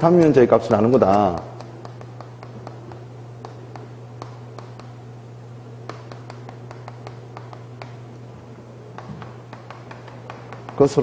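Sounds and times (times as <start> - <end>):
chalk tapping on chalkboard: 0.0 - 5.0, 5.8 - 8.0, 9.0 - 11.0
steady low hum: 0.0 - 11.0.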